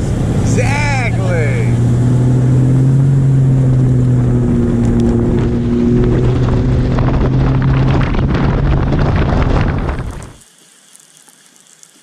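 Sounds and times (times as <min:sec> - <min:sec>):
outboard motor running: 0:00.0 - 0:10.4
crackling water: 0:01.8 - 0:12.0.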